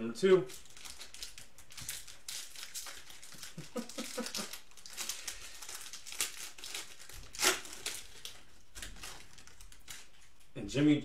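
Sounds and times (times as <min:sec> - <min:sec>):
plastic wrapping crinkling: 0:00.2 - 0:10.5.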